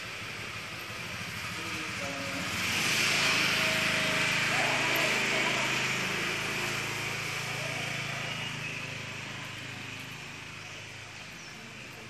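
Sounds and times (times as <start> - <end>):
motorbike engine passing by: 0.0 - 12.0.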